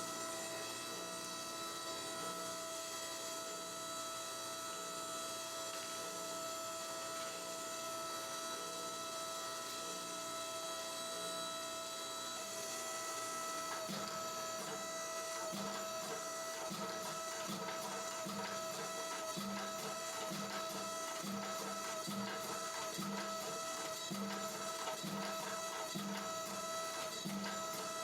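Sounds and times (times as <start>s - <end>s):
electric motor hum with whine: 0.0s - 28.0s.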